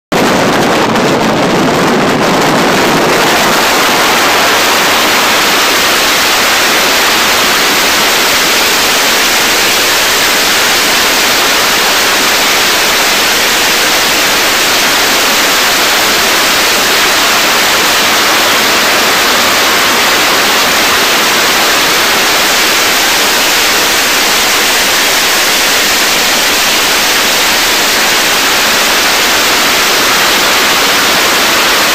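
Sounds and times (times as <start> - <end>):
wind rushing on microphone: 0.1 - 31.9.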